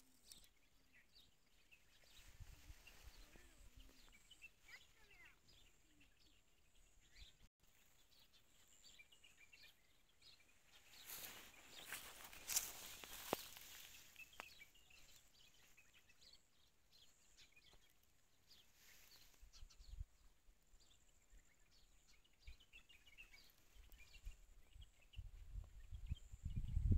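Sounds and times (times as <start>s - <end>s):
outdoor field ambience: 0.0s - 26.9s
small bird chirps: 0.0s - 26.9s.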